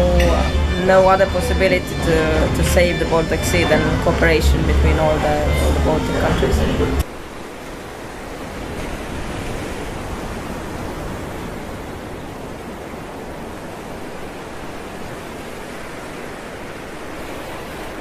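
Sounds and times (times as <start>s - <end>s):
ship's wake churning: 0.0s - 18.0s
wind at sea: 0.0s - 18.0s.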